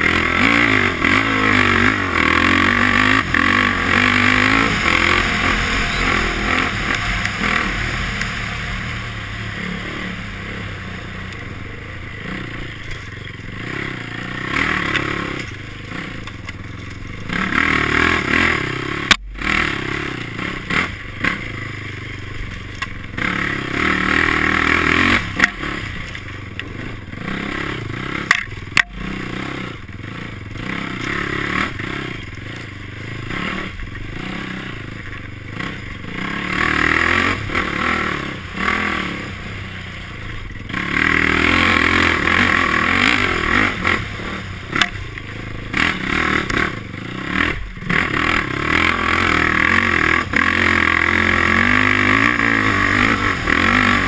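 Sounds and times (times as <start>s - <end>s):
quad engine revving: 0.0s - 22.0s, 23.1s - 54.0s.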